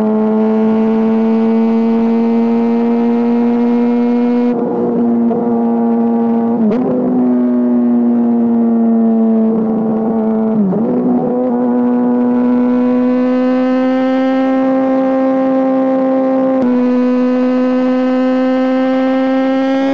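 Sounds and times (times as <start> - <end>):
motorcycle engine revving high: 0.0 - 19.9.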